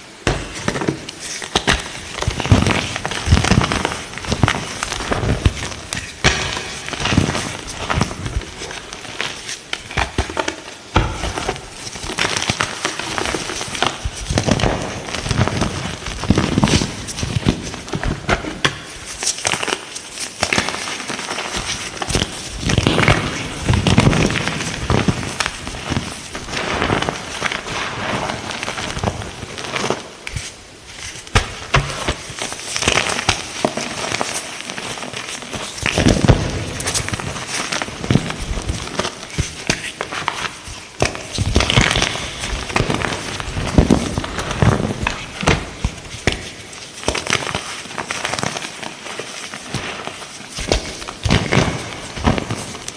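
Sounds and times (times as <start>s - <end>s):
chalk crackling and crunching: 0.2s - 52.9s.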